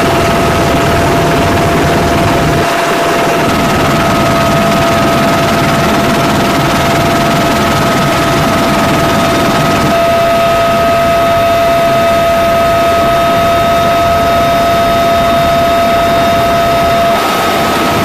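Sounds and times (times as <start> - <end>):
helicopter rotor and turbine noise: 0.0 - 18.0
high turbine whine: 0.0 - 18.0.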